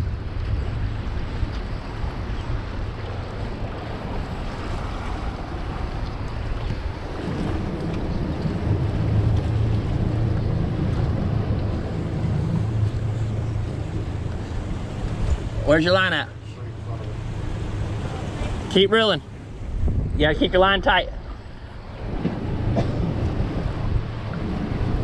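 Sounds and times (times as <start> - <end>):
outboard motor running: 0.0 - 25.0
water rushing: 0.0 - 25.0
wind buffeting microphone: 0.0 - 25.0.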